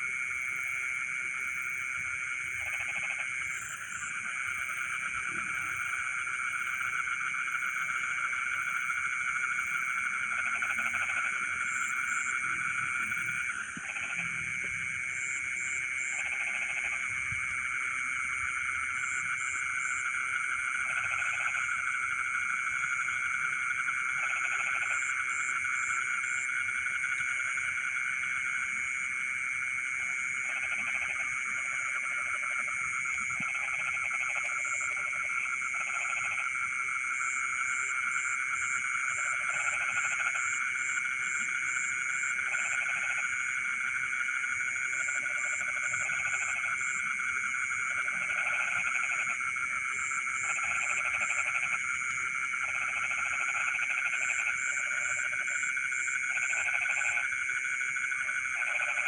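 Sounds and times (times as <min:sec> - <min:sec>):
frogs trilling: 0:00.0 - 0:59.0
low frog croaking: 0:00.0 - 0:59.0.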